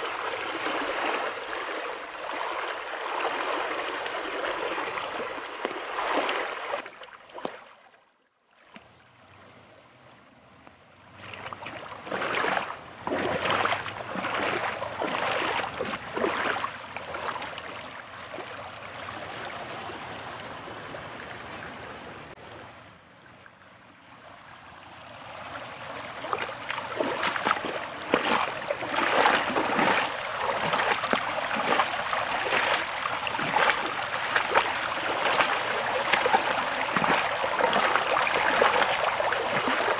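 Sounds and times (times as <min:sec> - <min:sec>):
floodwater rushing: 0:00.0 - 0:07.7, 0:11.0 - 0:22.6, 0:24.2 - 0:39.9.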